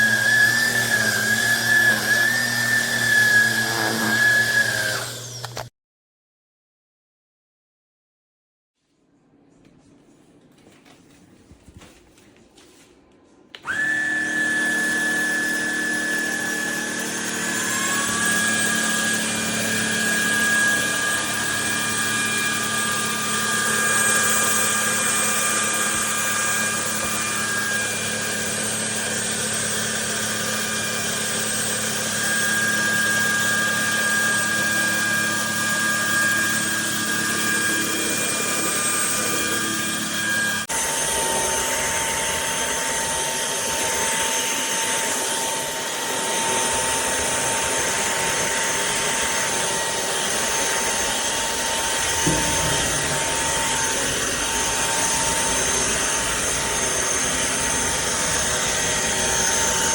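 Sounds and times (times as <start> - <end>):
stick vacuum motor whining: 0.0 - 5.7, 13.5 - 59.9.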